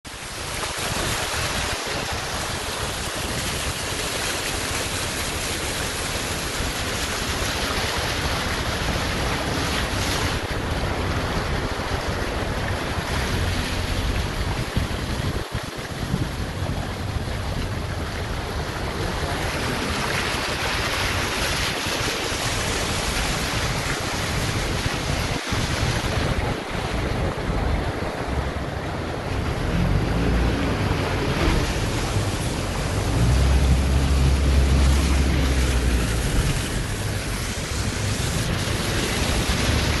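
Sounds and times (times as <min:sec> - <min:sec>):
rushing water: 0:00.0 - 0:40.0
wind buffeting microphone: 0:00.1 - 0:40.0.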